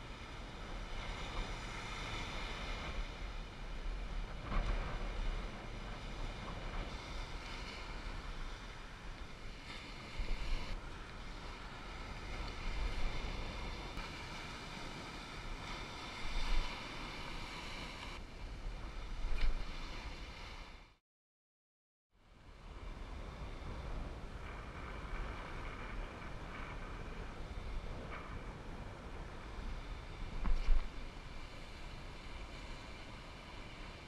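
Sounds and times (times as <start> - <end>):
waves breaking on shore: 0.0 - 21.0, 22.3 - 34.0
wind buffeting microphone: 0.0 - 21.0, 22.4 - 34.0.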